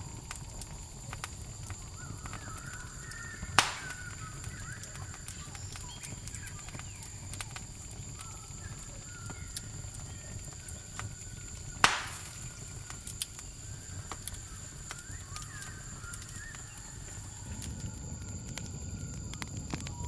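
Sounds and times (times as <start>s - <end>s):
campfire crackling and snapping: 0.0s - 20.0s
crickets trilling: 0.0s - 20.0s.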